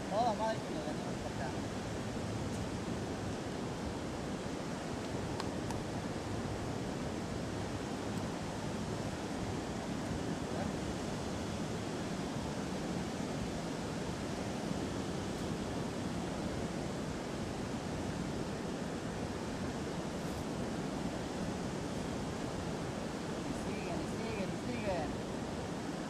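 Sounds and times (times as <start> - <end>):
river water rushing over weir: 0.0 - 26.0.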